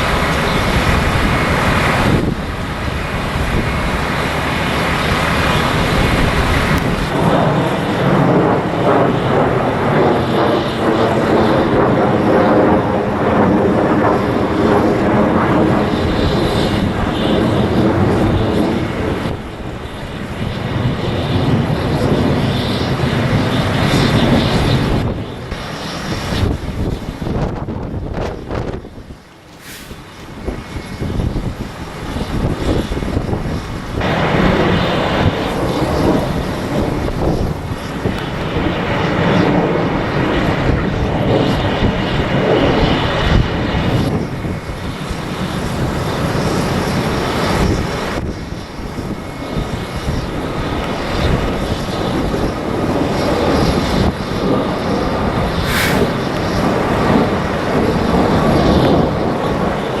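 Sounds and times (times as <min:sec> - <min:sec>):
gusty wind buffeting microphone: 0:00.0 - 1:00.0.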